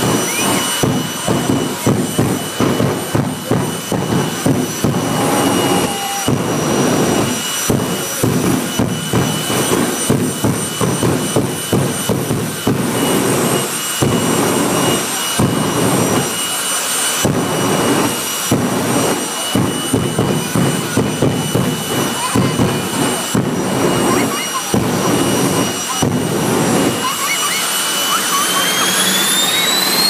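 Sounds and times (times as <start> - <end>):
jet engine roaring: 0.0 - 30.0
turbine whine: 0.0 - 30.0.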